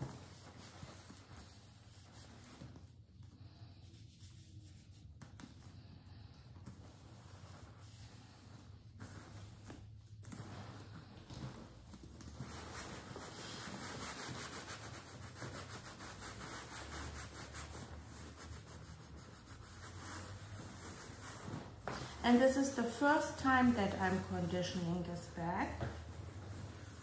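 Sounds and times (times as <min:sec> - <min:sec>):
cloth rubbing on leather: 0:00.0 - 0:27.0.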